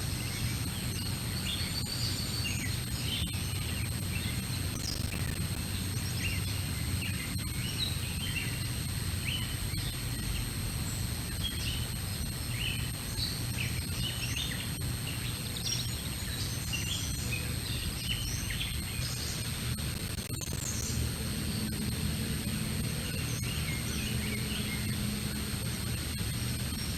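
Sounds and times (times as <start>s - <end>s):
songbirds chirping: 0.1s - 26.9s.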